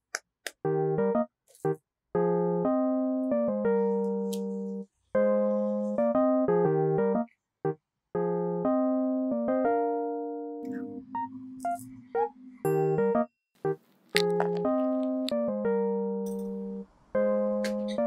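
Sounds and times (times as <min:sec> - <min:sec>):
piano music: 0:00.6 - 0:18.0.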